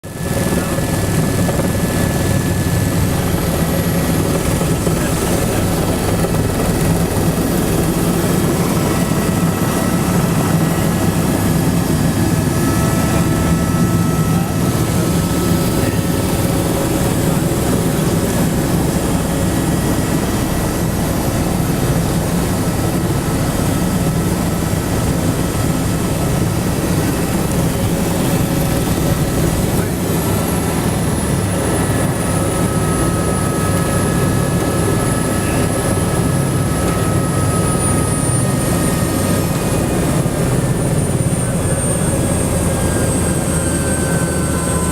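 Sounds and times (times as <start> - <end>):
helicopter engine and rotor noise: 0.0 - 44.9.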